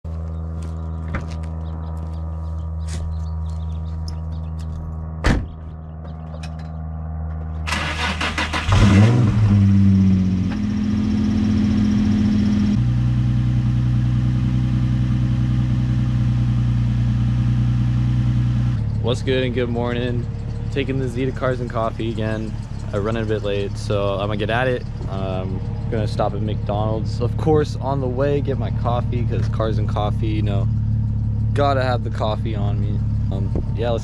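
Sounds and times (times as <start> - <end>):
car engine starting and idling: 0.1 - 34.0
low hum: 0.1 - 34.0.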